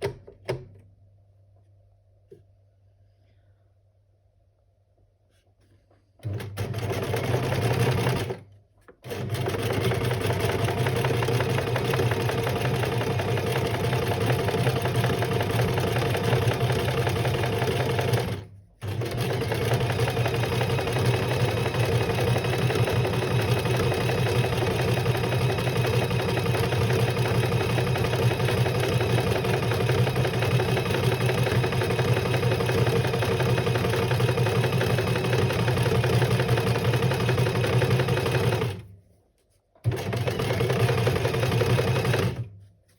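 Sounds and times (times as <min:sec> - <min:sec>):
electric sewing machine stitching: 0:06.2 - 0:08.4, 0:09.0 - 0:38.9, 0:39.8 - 0:42.5.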